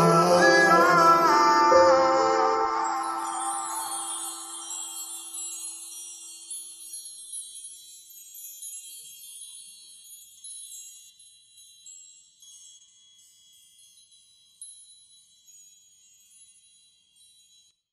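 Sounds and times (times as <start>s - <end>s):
tinkling chime music with reverb: 0.0s - 17.9s.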